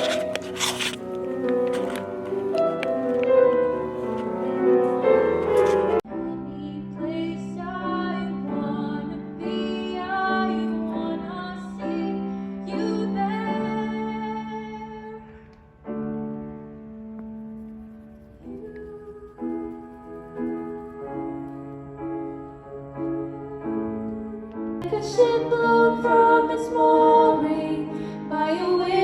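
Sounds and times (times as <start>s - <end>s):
piano accompaniment: 0.0s - 29.0s.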